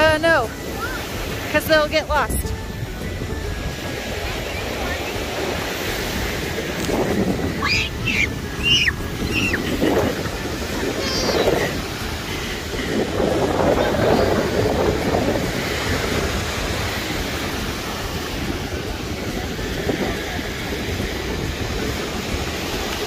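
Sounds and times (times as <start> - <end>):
ocean surf breaking: 0.0 - 23.0
wind rumble on microphone: 0.0 - 23.0.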